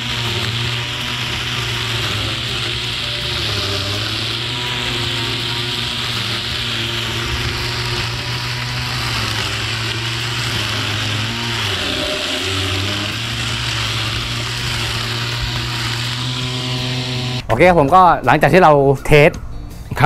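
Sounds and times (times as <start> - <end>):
grass trimmer running: 0.0 - 17.5.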